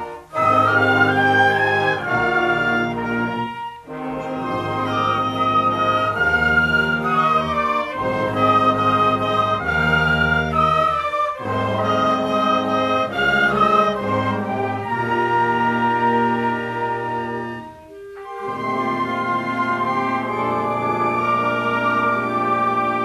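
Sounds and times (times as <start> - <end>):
orchestral music with brass and strings: 0.0 - 23.0.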